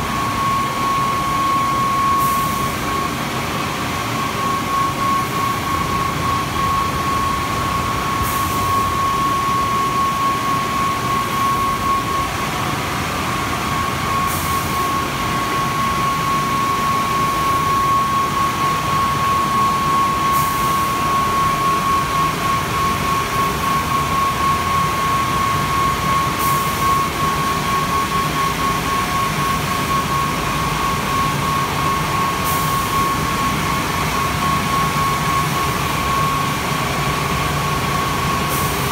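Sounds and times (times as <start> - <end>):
car wash blowers roaring: 0.0 - 38.9.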